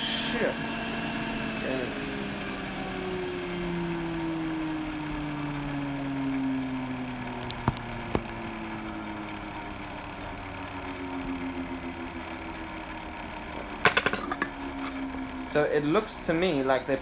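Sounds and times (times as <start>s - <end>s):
hot-air blower whirring: 0.0s - 17.0s.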